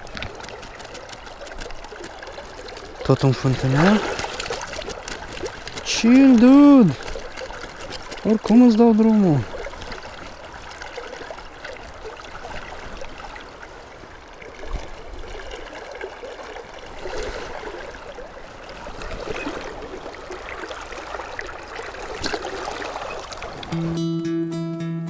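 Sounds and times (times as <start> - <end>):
water splashes: 0.0 - 23.8
river water rushing and gurgling: 0.0 - 24.0.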